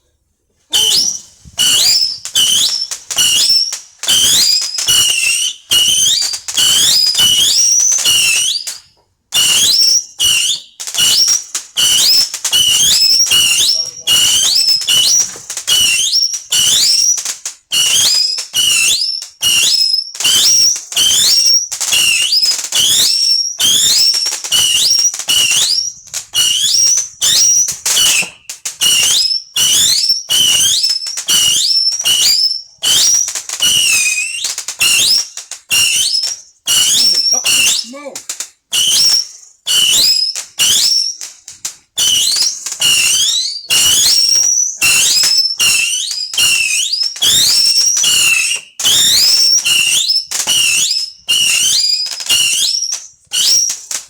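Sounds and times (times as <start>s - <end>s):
whistling fireworks: 0.7s - 54.0s.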